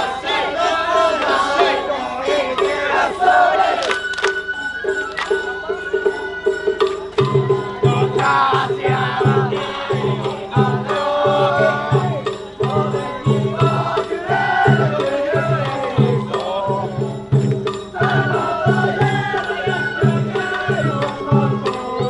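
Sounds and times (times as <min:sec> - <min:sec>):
steady drumbeat: 0:00.0 - 0:22.0
wavering melody: 0:00.3 - 0:22.0.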